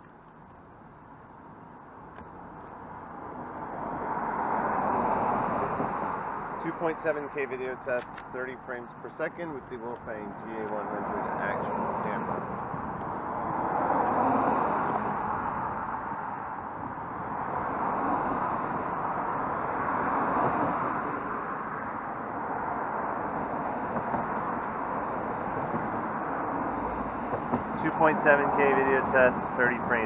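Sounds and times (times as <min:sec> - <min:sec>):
cars driving past: 0:02.1 - 0:30.0.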